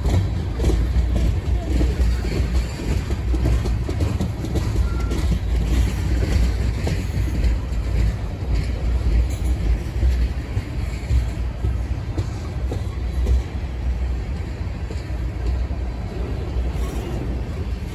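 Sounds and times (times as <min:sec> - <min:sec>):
freight train wheels rumbling: 0:00.0 - 0:17.9.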